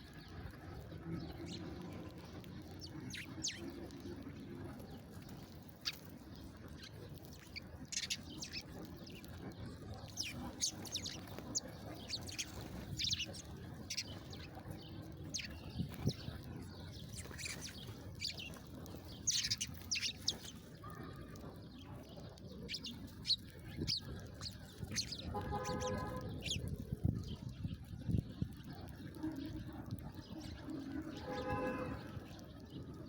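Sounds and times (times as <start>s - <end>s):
small songbirds chirping: 0.0s - 33.0s.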